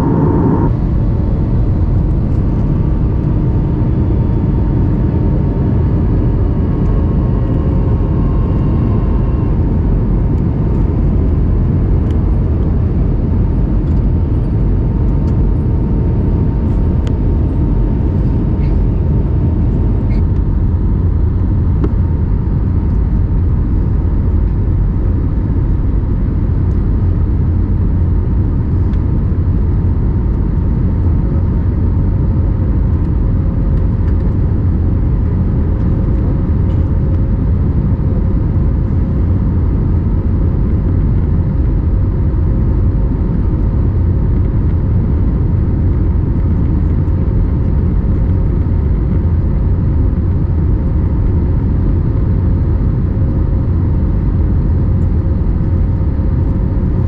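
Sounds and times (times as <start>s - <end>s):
airliner cabin roar: 0.0s - 57.0s
faint steady whine: 0.0s - 57.0s.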